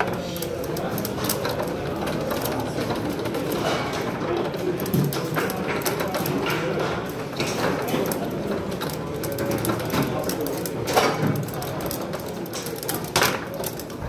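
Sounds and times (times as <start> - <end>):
foosball rods clacking: 0.0 - 14.0
murmur of voices: 0.0 - 14.0.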